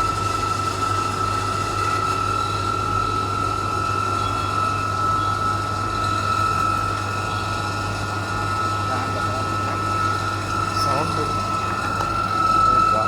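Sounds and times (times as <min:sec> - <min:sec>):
chiller low hum: 0:00.0 - 0:13.0
high-pitched whine: 0:00.0 - 0:13.0.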